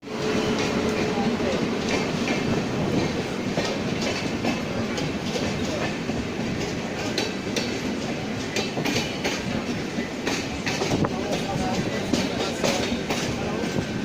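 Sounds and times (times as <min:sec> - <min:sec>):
train rumbling on track: 0:00.0 - 0:14.0
wheels clicking over rail joints: 0:00.3 - 0:14.0.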